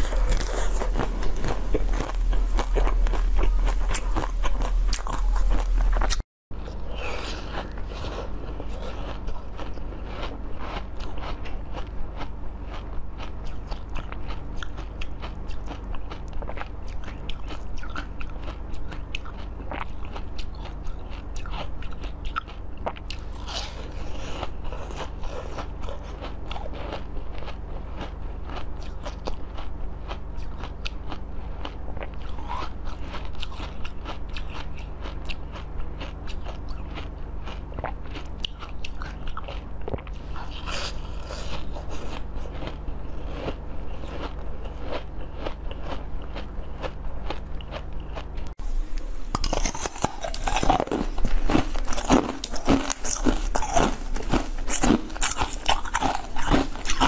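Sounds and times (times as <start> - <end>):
crunchy chewing: 0.0 - 57.0
low steady hum: 0.0 - 57.0.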